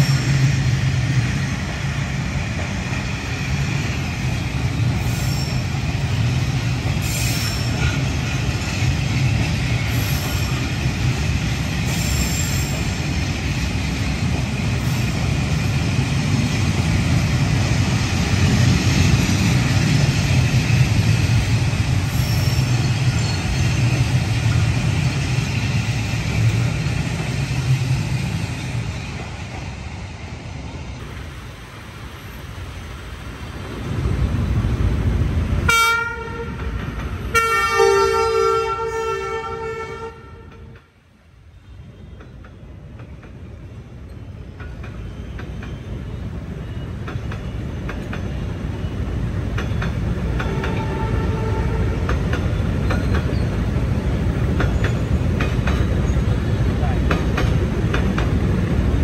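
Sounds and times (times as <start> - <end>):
louder train rumble: 0.0 - 59.0
train rumbling past on rails: 0.0 - 59.0.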